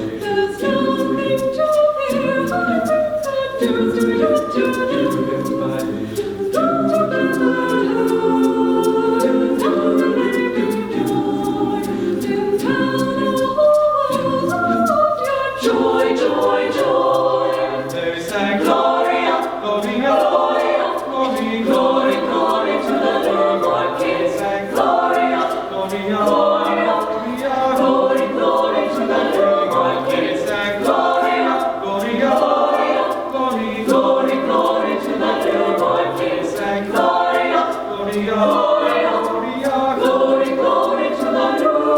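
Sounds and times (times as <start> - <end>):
choir singing a cappella: 0.0 - 41.9.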